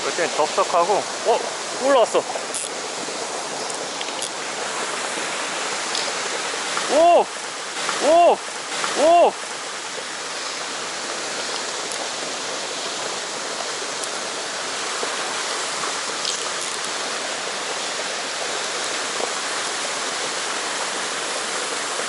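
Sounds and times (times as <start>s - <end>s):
fast river water rushing: 0.0s - 22.0s
water gushing from pipe: 0.0s - 22.0s.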